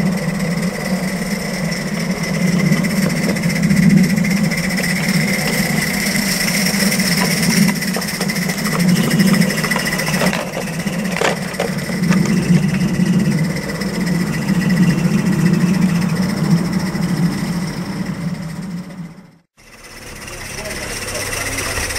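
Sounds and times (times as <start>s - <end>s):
high steam hissing: 0.0s - 21.9s
steam locomotive hum: 0.0s - 21.9s.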